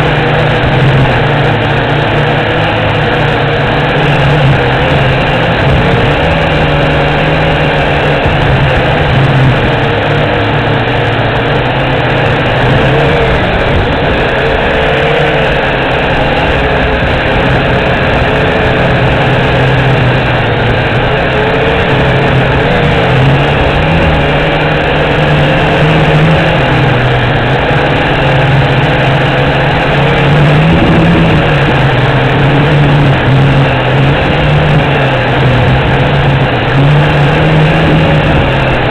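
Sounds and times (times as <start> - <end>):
quadcopter propellers whirring: 0.0 - 38.9.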